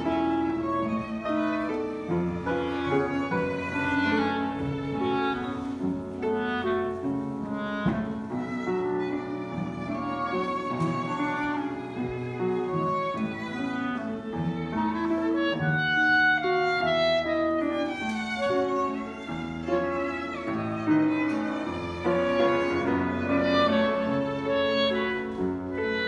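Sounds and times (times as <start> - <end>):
chamber ensemble playing a waltz: 0.0 - 26.0.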